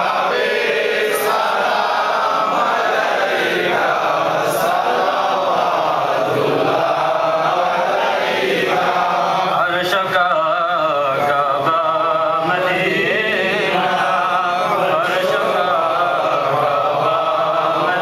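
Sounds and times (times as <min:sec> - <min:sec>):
devotional chanting voices: 0:00.0 - 0:18.0.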